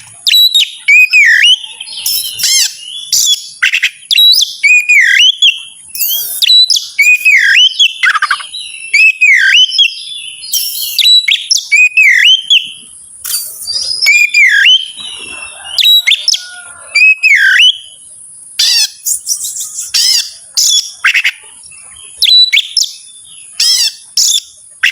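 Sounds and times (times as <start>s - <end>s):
bird singing: 0.0s - 24.9s
steady high-pitched hiss: 1.7s - 24.8s.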